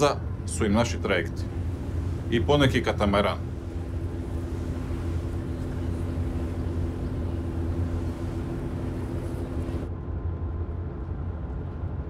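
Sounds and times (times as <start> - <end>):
ferry engines droning: 0.0 - 9.9
wind and water hiss: 0.0 - 9.9.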